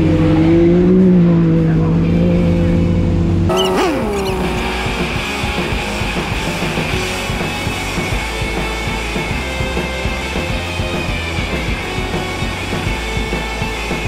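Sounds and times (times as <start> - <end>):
background music: 0.0 - 14.0
race vehicle engine: 0.0 - 14.0.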